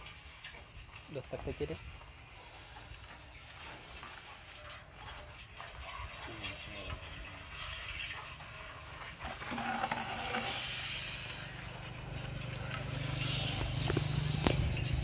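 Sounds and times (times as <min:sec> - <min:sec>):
dogs chewing and lapping: 0:00.0 - 0:15.0.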